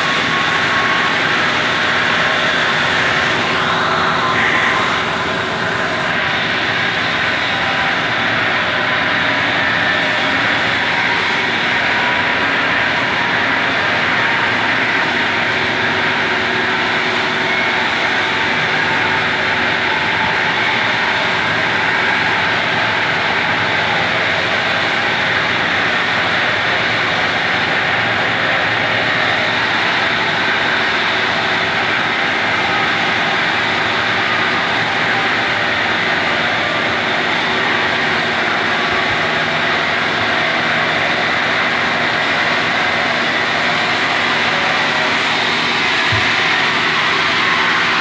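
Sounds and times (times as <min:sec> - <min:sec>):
metal lathe running: 0:00.0 - 0:48.0.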